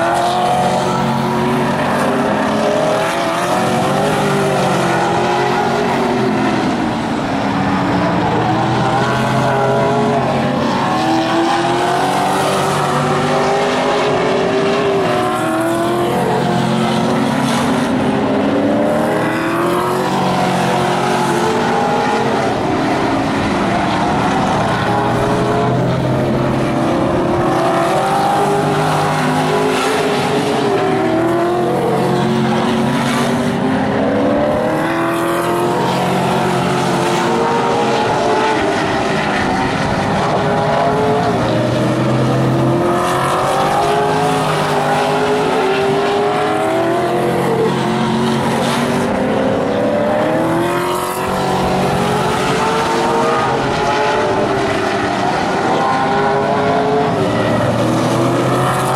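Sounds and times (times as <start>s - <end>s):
race car engines passing by: 0.0s - 58.9s.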